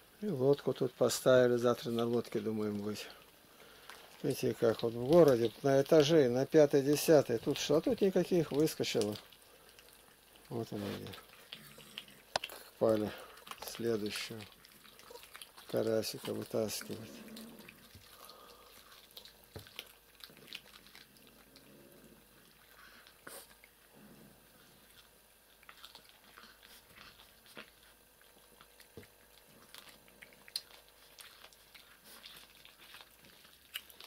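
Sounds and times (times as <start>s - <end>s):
cats chewing fish: 0.0s - 34.0s.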